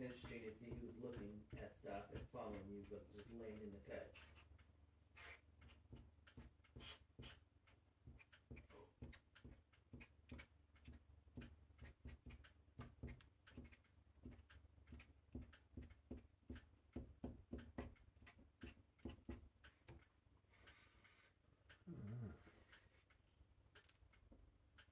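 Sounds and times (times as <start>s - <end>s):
marker tapping and scratching on paper: 0.0s - 20.8s.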